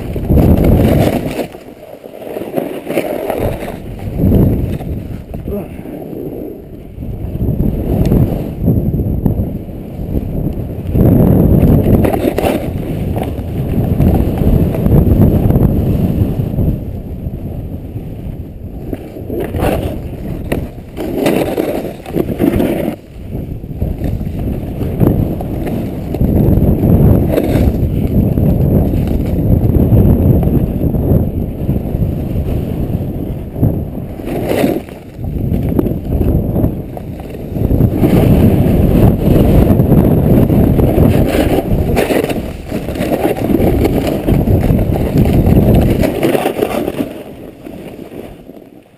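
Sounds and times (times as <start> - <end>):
snowboard scraping over snow: 0.0 - 48.9
wind buffeting microphone: 0.0 - 48.9.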